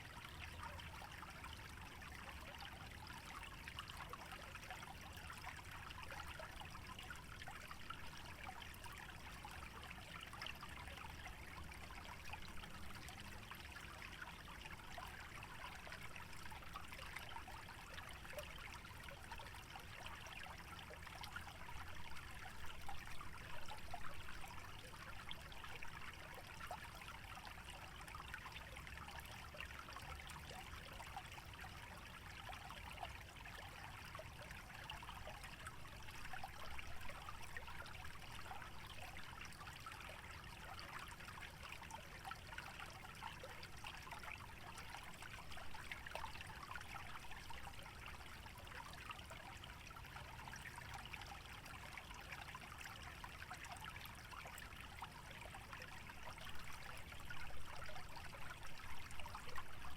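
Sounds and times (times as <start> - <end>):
stream trickling and babbling: 0.0 - 59.9.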